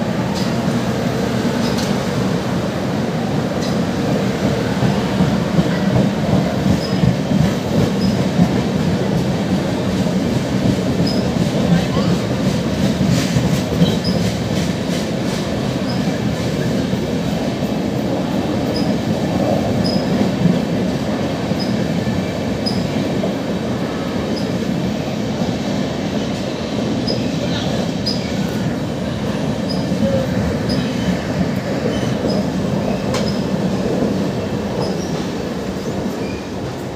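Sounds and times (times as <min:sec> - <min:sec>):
train wheels rumbling on rail: 0:00.0 - 0:36.9.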